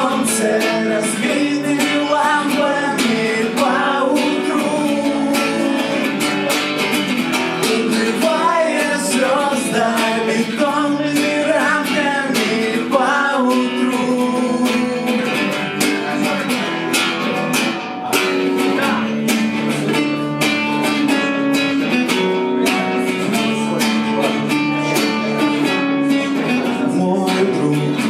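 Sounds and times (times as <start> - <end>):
guitar strummed: 0.0 - 28.0.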